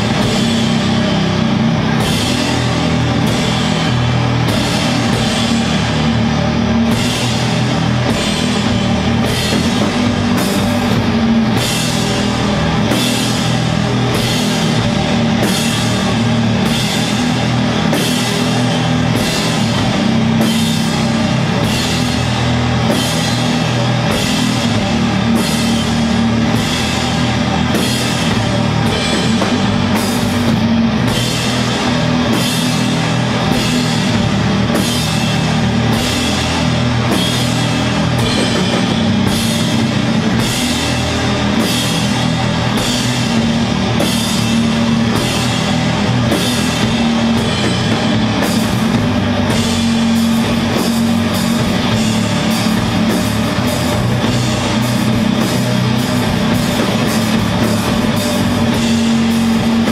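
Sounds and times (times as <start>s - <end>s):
heavy metal band playing live: 0.0s - 59.9s.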